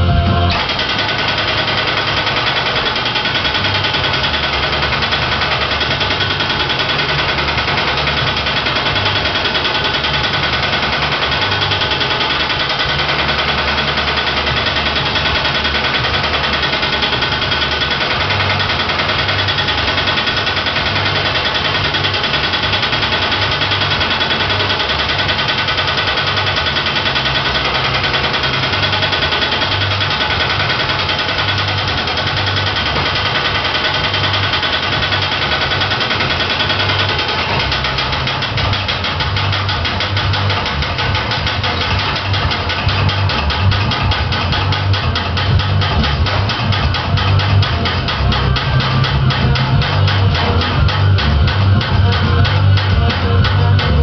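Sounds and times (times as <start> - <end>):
power hammer striking metal: 0.0 - 54.0.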